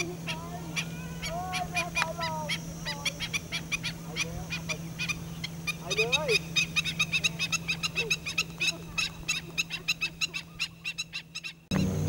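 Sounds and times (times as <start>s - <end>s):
stilts yelping calls: 0.0s - 11.7s
lower sliding bird calls: 0.0s - 12.0s.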